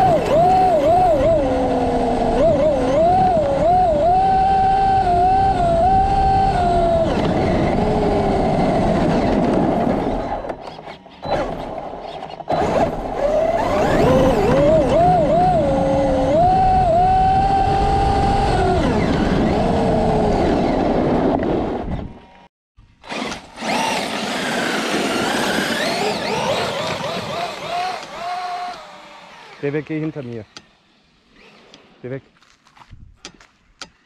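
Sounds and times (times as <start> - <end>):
electric motor whining: 0.0 - 9.5, 11.3 - 21.2, 23.0 - 31.9.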